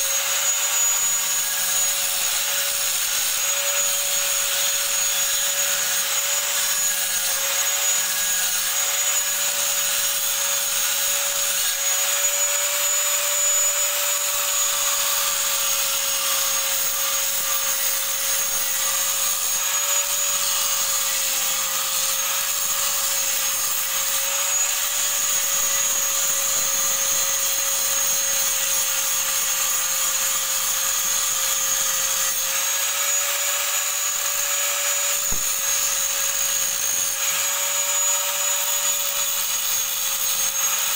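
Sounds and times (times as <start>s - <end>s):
angle grinder grinding metal: 0.0s - 40.9s.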